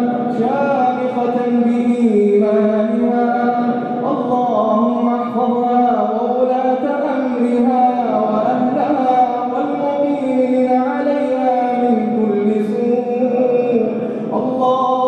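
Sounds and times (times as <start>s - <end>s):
men chanting melodically: 0.0s - 15.0s.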